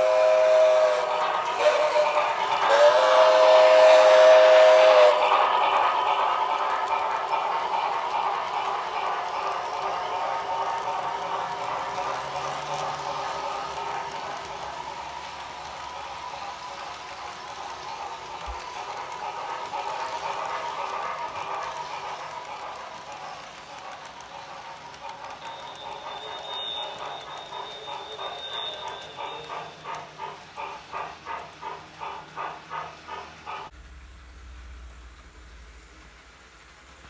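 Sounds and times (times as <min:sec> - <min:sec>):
wheels clicking over rail joints: 0:00.0 - 0:33.8
model train cars rolling: 0:00.0 - 0:37.0.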